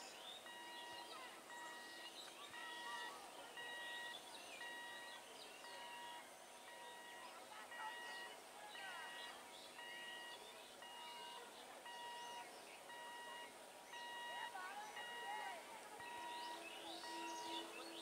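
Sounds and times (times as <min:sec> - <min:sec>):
electronic warning beeps: 0:00.0 - 0:17.8
birds chirping: 0:00.0 - 0:18.0.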